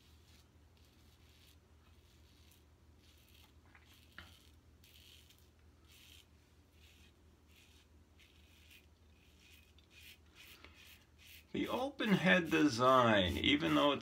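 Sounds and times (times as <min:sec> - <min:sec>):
razor scraping stubble: 0:00.0 - 0:14.0.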